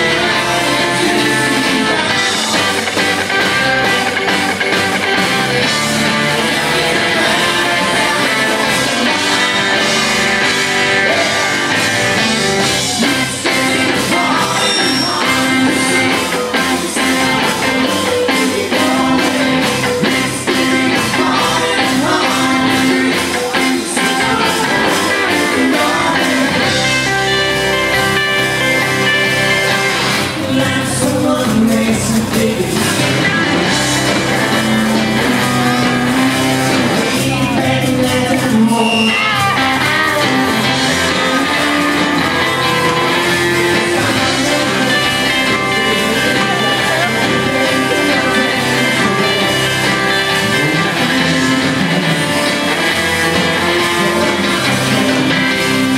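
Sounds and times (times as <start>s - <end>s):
person singing: 0.0s - 4.1s, 5.3s - 28.1s, 29.6s - 55.9s
live rock band playing: 0.0s - 55.9s.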